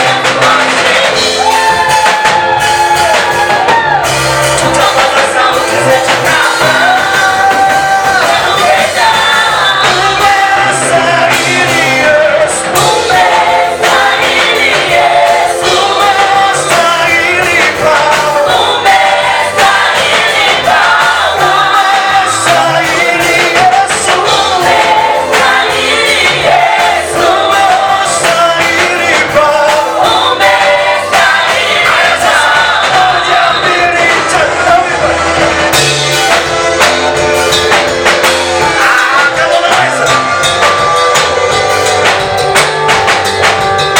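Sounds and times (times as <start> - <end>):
band with bass and beat: 0.0 - 43.9
group of voices singing: 0.0 - 43.9.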